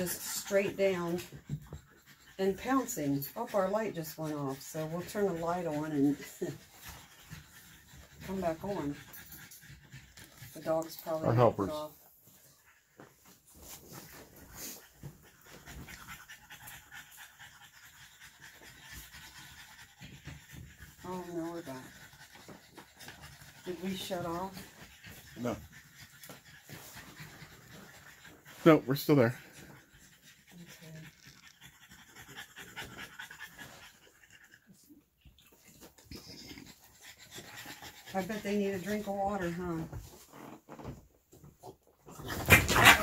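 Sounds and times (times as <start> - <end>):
dog panting: 0.0 - 40.5.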